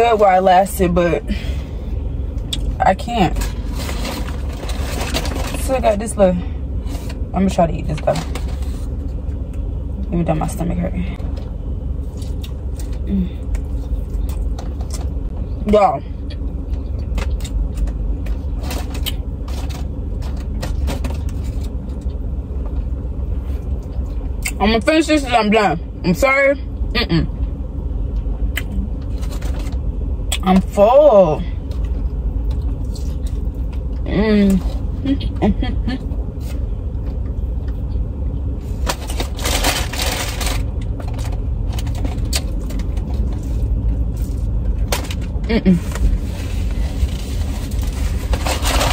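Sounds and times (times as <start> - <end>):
low rumble inside car: 0.0 - 48.9.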